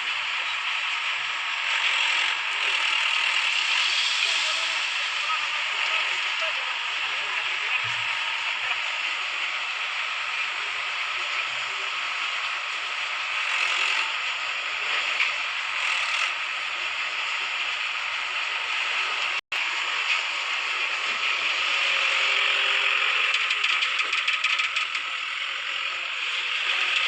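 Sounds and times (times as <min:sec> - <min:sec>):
excavator engine and hydraulics: 0:00.0 - 0:27.0.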